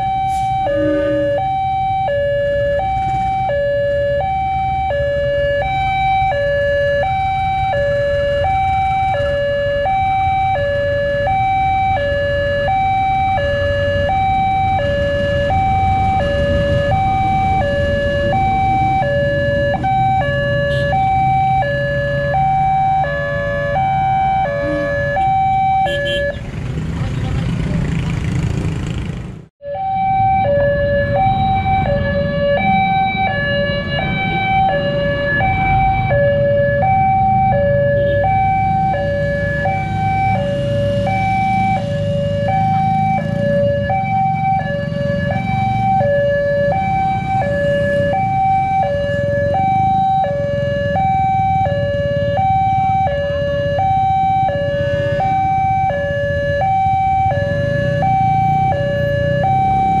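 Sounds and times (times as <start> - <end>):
level crossing two-tone alarm: 0.0 - 26.3, 29.6 - 60.0
road traffic rumble: 0.0 - 60.0.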